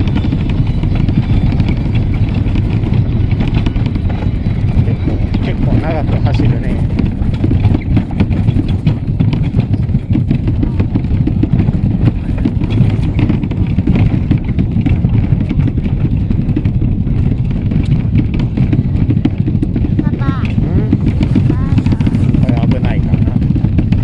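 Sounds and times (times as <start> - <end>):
train rumbling: 0.0 - 24.0
wheels clattering on track: 0.0 - 24.0.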